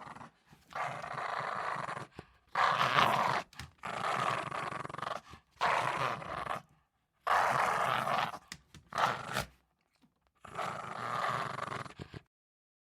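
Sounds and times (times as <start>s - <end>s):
small dog growling: 0.0s - 9.6s, 10.4s - 12.3s.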